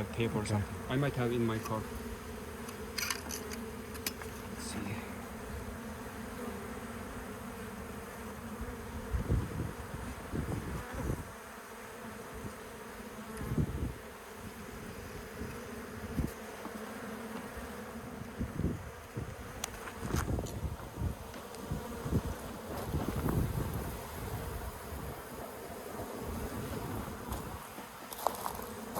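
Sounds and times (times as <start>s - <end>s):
bees buzzing: 0.0s - 28.9s.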